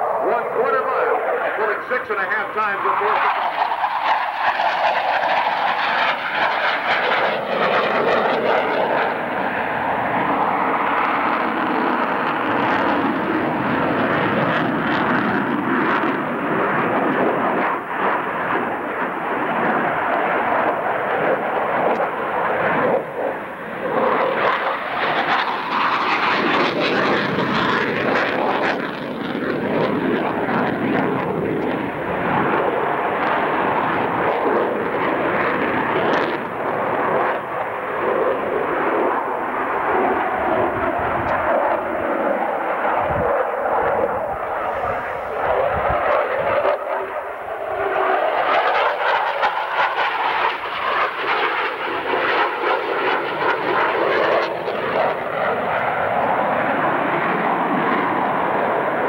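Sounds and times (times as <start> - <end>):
fighter jet engine noise: 0.0 - 59.0.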